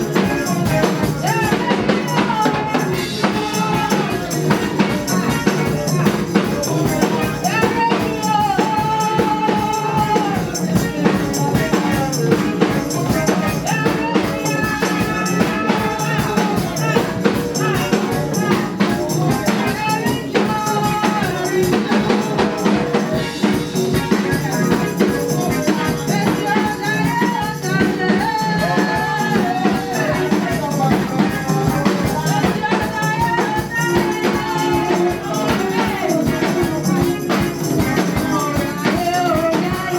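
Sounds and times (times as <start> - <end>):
drums beating: 0.0 - 39.9
tambourine: 0.0 - 39.9
voices singing gospel: 0.0 - 39.9.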